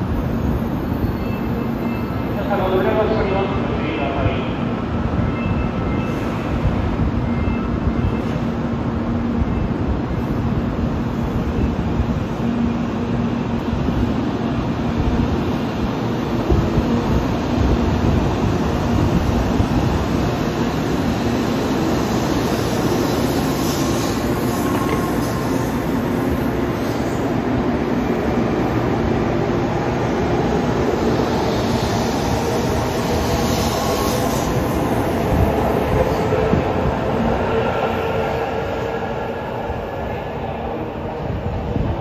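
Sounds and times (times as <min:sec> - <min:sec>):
train rumbling slowly: 0:00.0 - 0:42.0.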